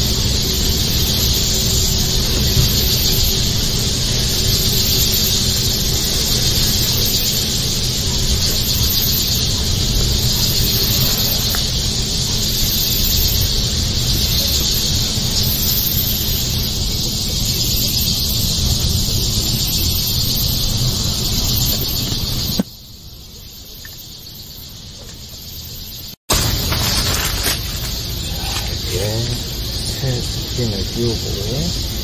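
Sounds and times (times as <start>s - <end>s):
high-pitched insect buzzing: 0.0s - 32.0s.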